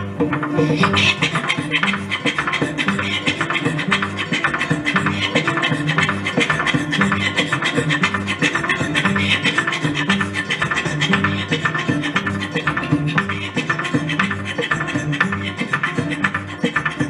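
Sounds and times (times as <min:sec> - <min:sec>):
live band music: 0:00.0 - 0:17.0
rapid percussion: 0:00.0 - 0:17.0.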